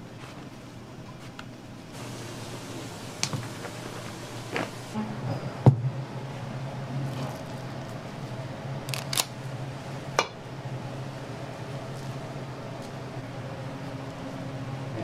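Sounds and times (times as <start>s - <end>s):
steady low hum: 1.6s - 15.0s.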